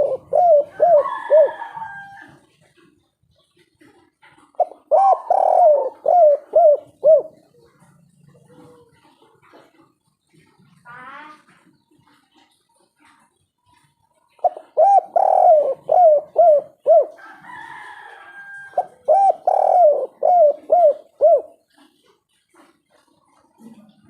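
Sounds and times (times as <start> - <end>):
dove cooing: 0.0 - 10.8, 13.0 - 24.0
faint noisy sound: 0.0 - 24.0.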